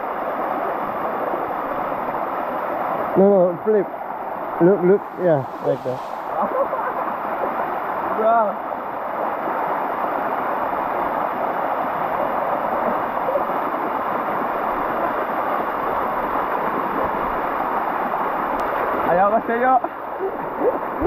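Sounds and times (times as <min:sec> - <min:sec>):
waterfall water rushing: 0:00.0 - 0:21.0.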